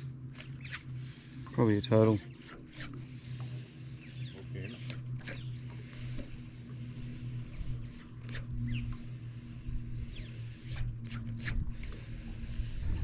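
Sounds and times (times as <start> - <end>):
reel clicks and scrapes: 0.0 - 13.0
steady low hum: 0.0 - 13.0.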